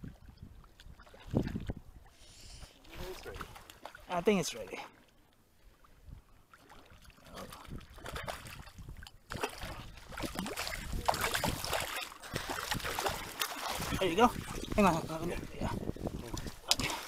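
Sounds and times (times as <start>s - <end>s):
river water sloshing and splashing: 0.0s - 17.0s.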